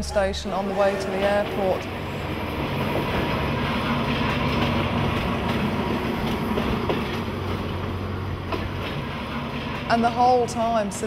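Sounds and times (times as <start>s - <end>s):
train running on tracks: 0.0s - 11.0s.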